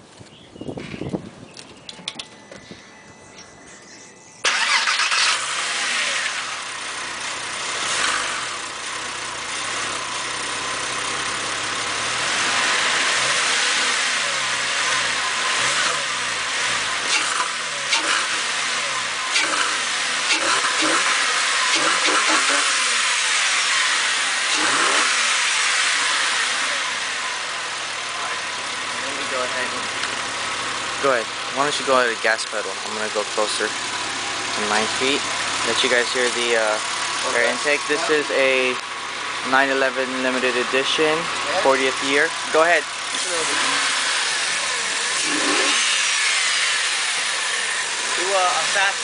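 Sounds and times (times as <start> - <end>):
car engine starting and idling: 1.4 - 49.0.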